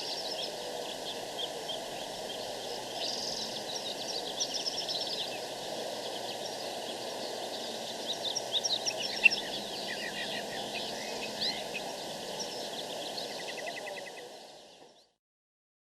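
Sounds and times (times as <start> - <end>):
bird trill: 0.0 - 14.2
background hiss: 0.0 - 15.1
birds chirping: 0.0 - 15.2.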